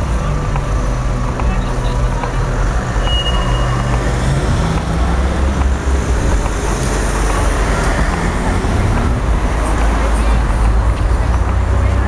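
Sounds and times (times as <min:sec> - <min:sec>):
large vehicle low rumble: 0:00.0 - 0:12.0
road noise: 0:00.0 - 0:12.0.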